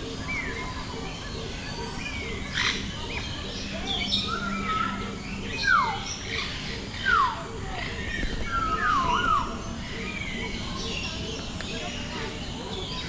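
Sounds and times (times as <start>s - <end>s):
bird chirps and tweets: 0.0s - 13.0s
bird whistled calls: 0.1s - 11.4s.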